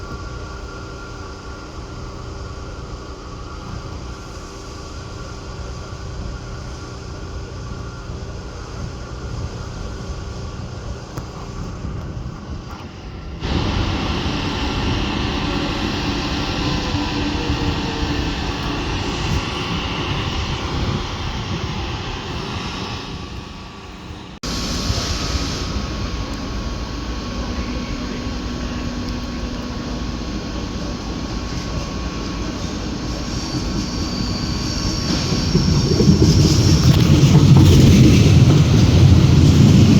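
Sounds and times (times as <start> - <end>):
railway vehicles humming and rumbling: 0.0 - 39.9.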